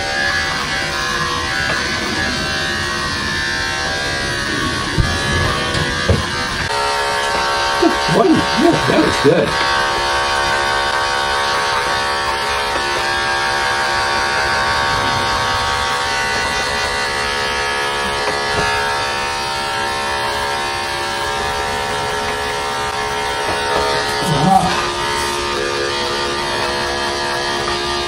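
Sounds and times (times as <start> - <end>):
electric clippers humming: 0.0 - 28.0.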